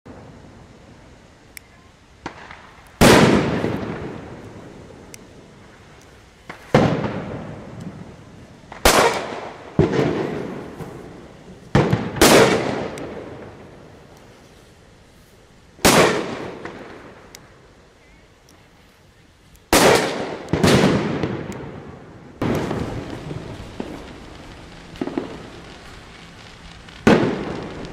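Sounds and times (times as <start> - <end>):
firecrackers exploding with echo: 2.1 - 18.4, 19.6 - 27.9.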